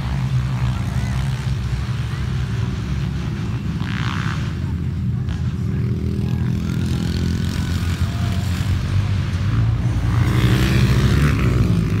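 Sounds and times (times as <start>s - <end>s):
motorcycle engines racing: 0.0s - 12.0s.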